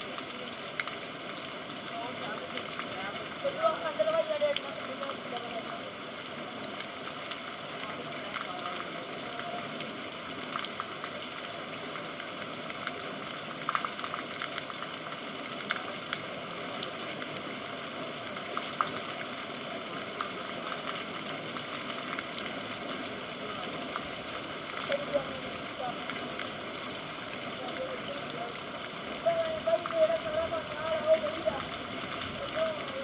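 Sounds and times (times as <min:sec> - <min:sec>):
drops and drips ticking: 0:00.0 - 0:33.0
steady rain falling: 0:00.0 - 0:33.0.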